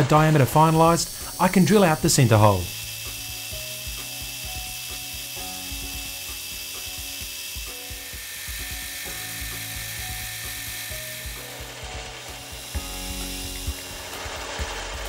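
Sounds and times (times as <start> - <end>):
drill boring metal: 0.0 - 15.0
metal lathe running: 0.0 - 15.0.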